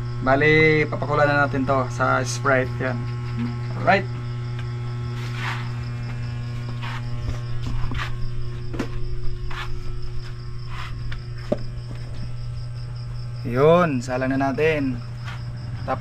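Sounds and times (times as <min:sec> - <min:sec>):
crickets chirping: 0:00.0 - 0:16.0
steady low hum: 0:00.0 - 0:16.0.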